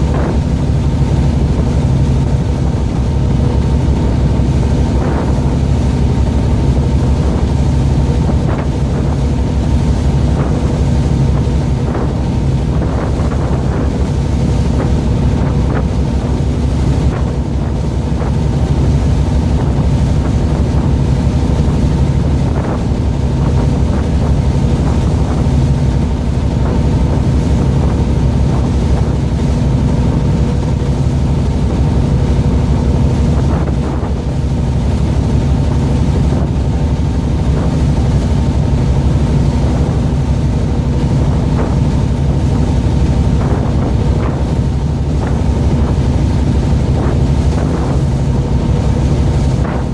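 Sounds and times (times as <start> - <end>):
boat engine humming: 0.0 - 49.9
wind buffeting microphone: 0.0 - 49.9.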